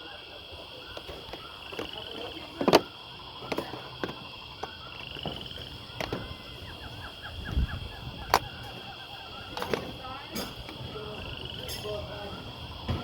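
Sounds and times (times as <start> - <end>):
insects chorus: 0.0 - 13.0
rattling insect trill: 0.0 - 13.0.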